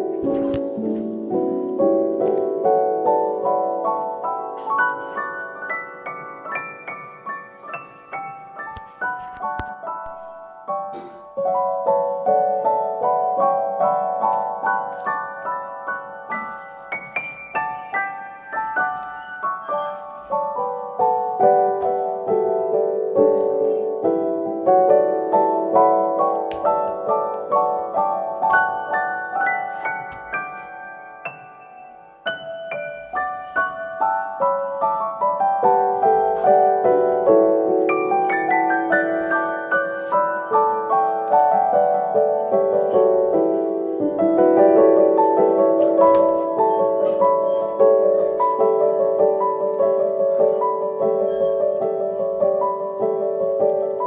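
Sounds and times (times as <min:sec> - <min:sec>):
gentle keyboard melody: 0:00.0 - 0:54.0.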